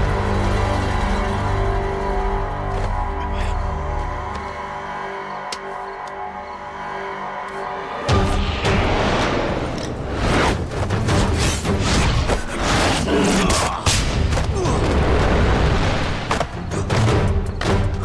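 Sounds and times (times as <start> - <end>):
dramatic music: 0.0 - 18.0.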